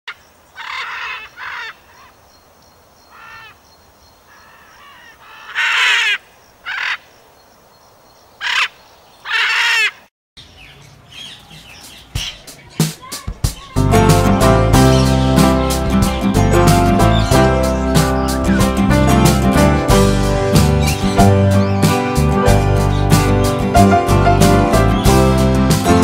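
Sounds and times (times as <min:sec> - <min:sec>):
harsh bird calls: 0:00.1 - 0:13.8, 0:14.8 - 0:19.1, 0:20.5 - 0:23.9.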